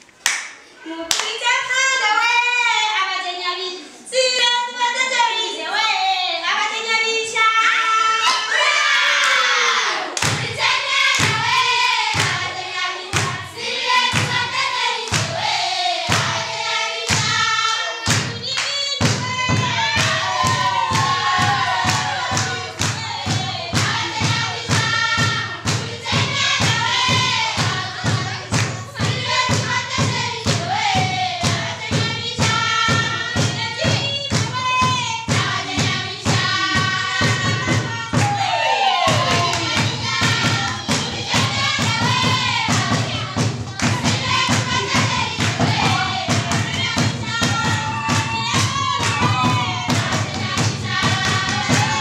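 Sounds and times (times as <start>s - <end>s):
children singing in chorus: 8.2s - 18.3s, 19.1s - 52.0s
steady thumping beat: 10.2s - 52.0s.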